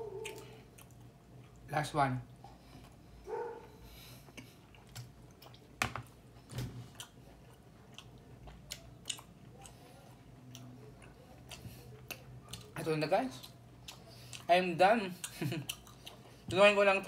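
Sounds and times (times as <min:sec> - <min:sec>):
person chewing food: 0:00.0 - 0:01.7, 0:02.3 - 0:16.5.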